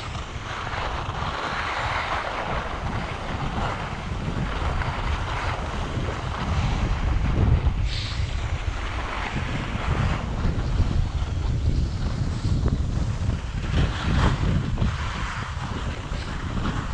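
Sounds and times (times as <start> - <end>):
skis sliding on snow: 0.0 - 16.9
wind buffeting microphone: 0.0 - 16.9.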